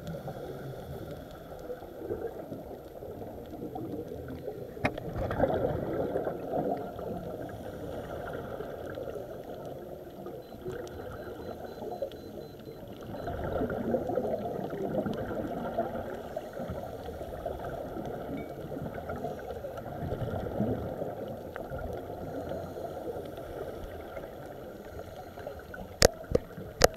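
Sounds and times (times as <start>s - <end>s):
underwater bubbling and gurgling: 0.0s - 26.9s.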